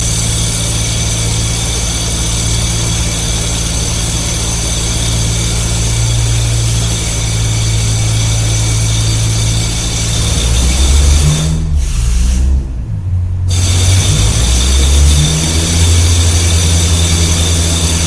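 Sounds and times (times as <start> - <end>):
low engine drone: 0.0 - 18.0
thin steady whine: 0.0 - 18.0.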